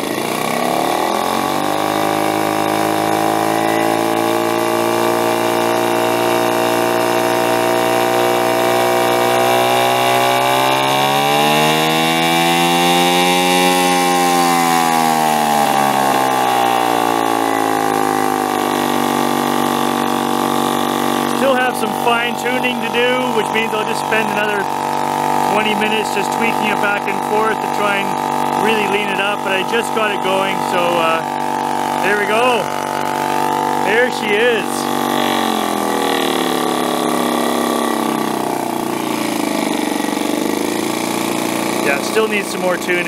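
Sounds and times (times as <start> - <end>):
outboard motor running: 0.0 - 43.0.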